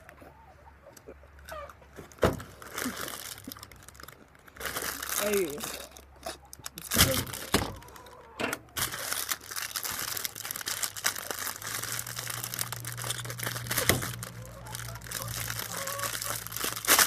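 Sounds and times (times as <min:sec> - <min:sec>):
plastic bag crinkling: 0:02.0 - 0:08.2, 0:08.8 - 0:17.0.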